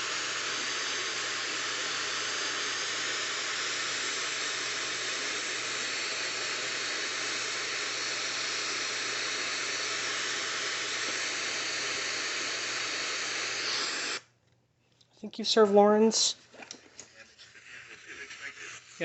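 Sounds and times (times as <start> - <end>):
radio static hiss: 0.0 - 14.2, 17.0 - 19.0.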